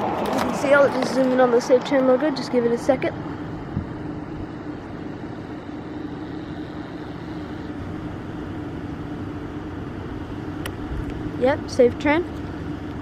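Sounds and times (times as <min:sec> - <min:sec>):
constant low hum: 0:00.0 - 0:13.0
road traffic noise: 0:00.0 - 0:13.0.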